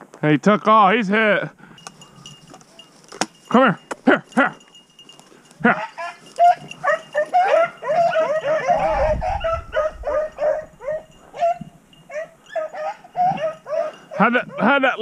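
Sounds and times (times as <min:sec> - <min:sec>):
hounds baying and barking: 0:01.6 - 0:15.0.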